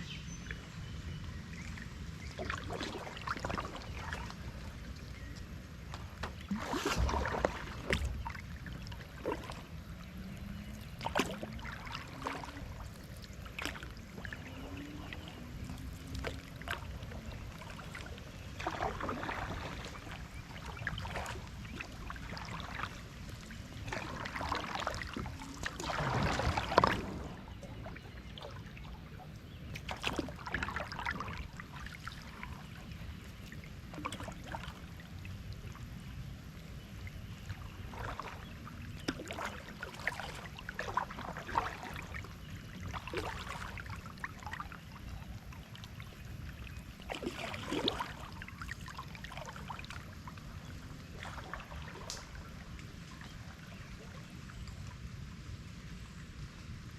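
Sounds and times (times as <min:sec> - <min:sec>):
paddle splashing through water: 0:01.5 - 0:54.9.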